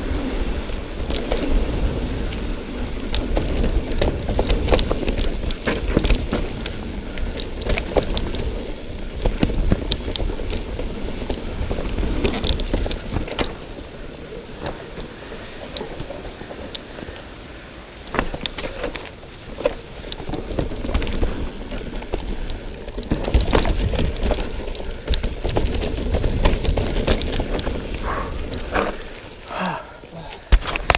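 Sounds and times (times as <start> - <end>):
bike clacks and rattles: 0.0 - 17.4, 18.0 - 29.7, 30.4 - 30.9.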